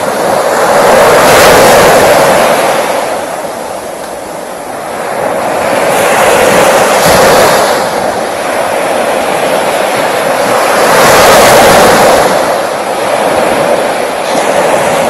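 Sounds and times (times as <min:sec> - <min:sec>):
waves washing up a beach: 0:00.0 - 0:15.0.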